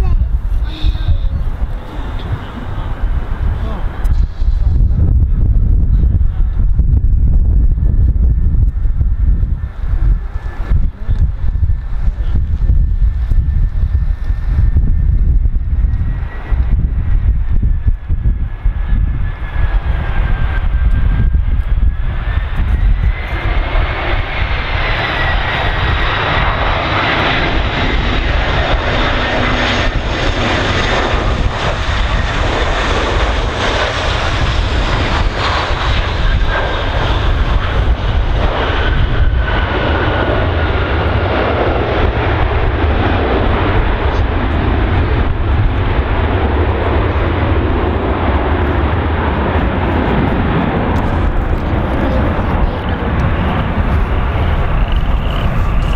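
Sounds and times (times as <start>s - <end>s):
jet engine whine: 0.0s - 55.9s
jet rumble: 0.0s - 55.9s.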